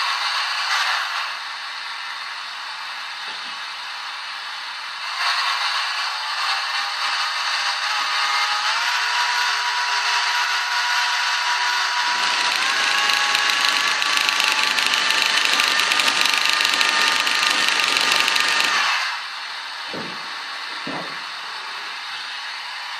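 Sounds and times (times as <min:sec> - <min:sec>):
model diesel locomotive engine sound: 0:00.0 - 0:19.8.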